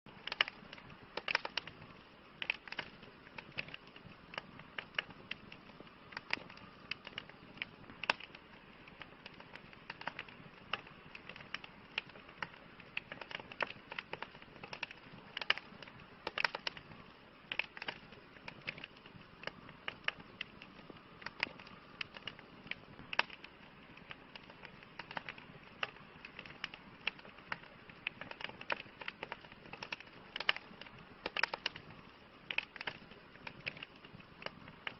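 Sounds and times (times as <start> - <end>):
campfire crackling: 0.1 - 34.9
soft steady hiss: 0.1 - 34.9.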